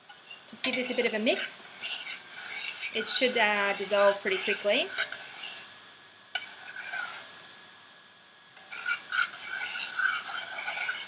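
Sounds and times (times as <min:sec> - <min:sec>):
spoon scraping saucepan: 0:00.0 - 0:05.7, 0:06.4 - 0:07.3, 0:08.6 - 0:11.0.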